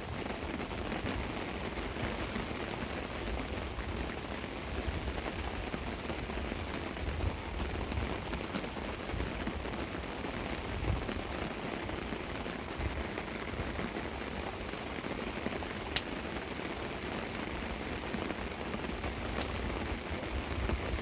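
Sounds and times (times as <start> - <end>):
rain falling on a tarp: 0.0 - 21.0.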